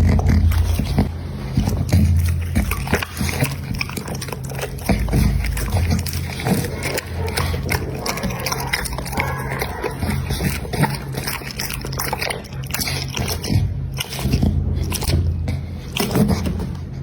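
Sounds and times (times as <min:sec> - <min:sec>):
dog chewing and crunching food: 0:00.0 - 0:17.0.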